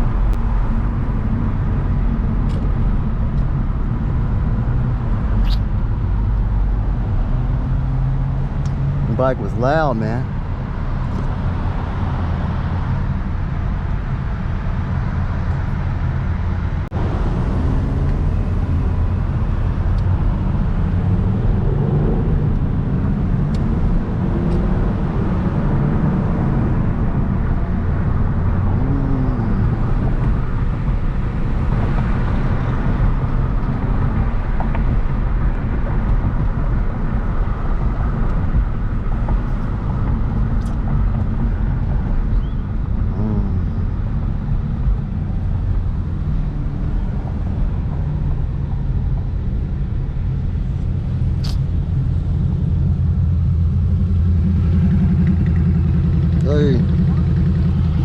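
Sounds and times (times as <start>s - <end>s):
road noise: 0.0s - 58.0s
car engine running: 8.4s - 58.0s.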